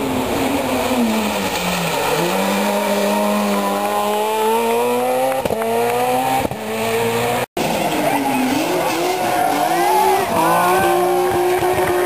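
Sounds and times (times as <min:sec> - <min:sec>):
another car engine: 0:00.0 - 0:12.0
rally car engine accelerating: 0:00.0 - 0:12.0.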